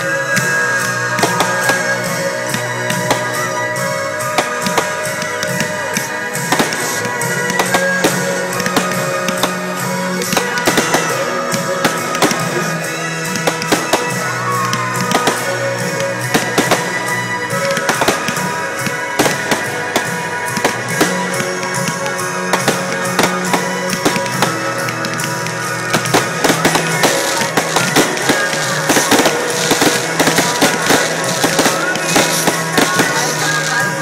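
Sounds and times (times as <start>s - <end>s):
fireworks bursting: 0.0s - 34.0s
music with held notes and bass: 0.0s - 34.0s.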